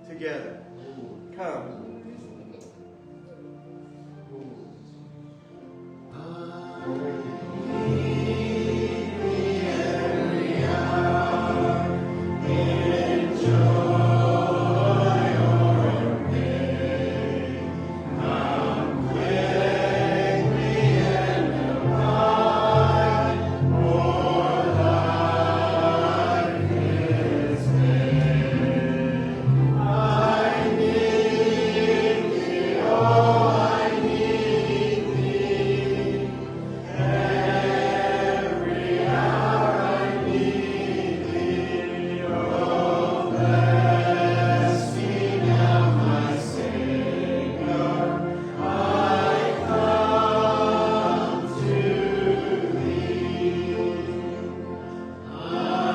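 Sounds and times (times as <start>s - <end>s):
low accompanying notes: 0.0s - 55.9s
group singing a hymn: 5.6s - 55.9s.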